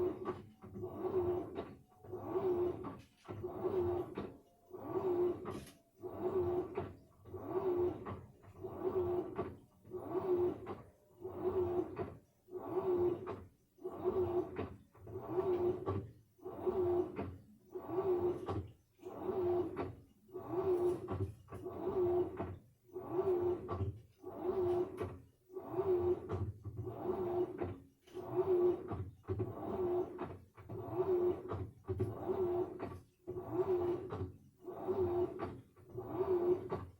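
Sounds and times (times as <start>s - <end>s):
washing machine motor whine: 0.0s - 36.9s
water swishing in washer: 0.0s - 36.9s.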